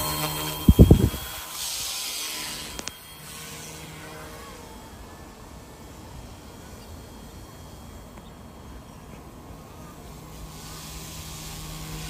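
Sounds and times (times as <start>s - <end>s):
rc helicopter whirring: 0.0s - 12.0s.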